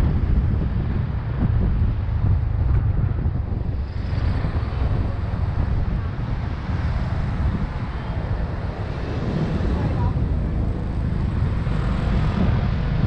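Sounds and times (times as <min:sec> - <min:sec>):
motorbike road noise: 0:00.0 - 0:13.0
wind buffeting microphone: 0:00.0 - 0:13.0.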